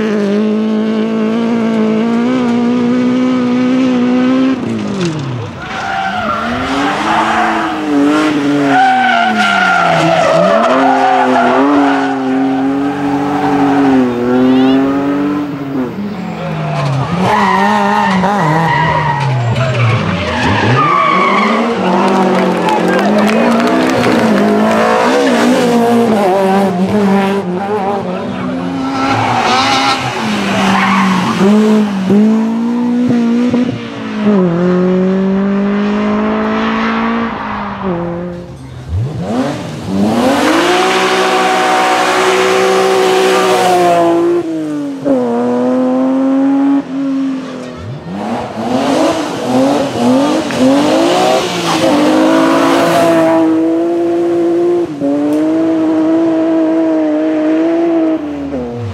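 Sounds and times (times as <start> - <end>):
rally car engines at full throttle: 0.0 - 58.9.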